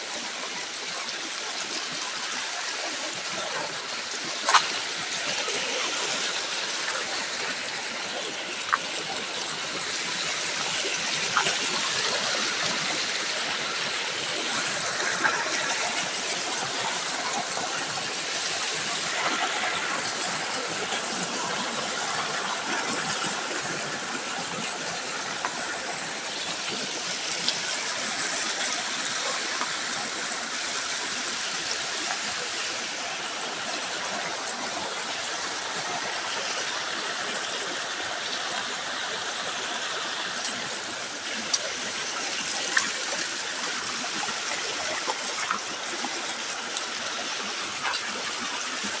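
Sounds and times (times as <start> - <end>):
flowing water rushing: 0.0 - 49.0.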